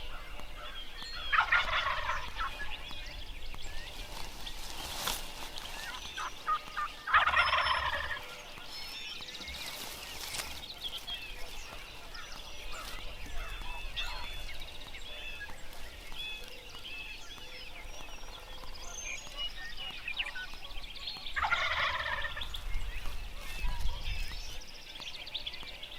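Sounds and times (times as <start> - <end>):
wild turkey gobbling: 0.1 - 3.0, 5.0 - 25.2.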